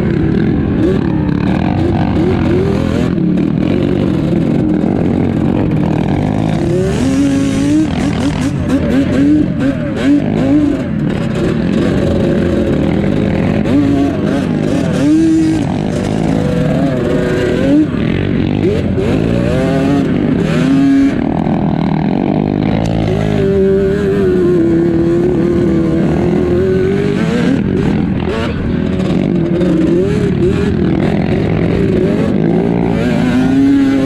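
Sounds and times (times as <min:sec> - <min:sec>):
quad engines revving: 0:00.0 - 0:34.0.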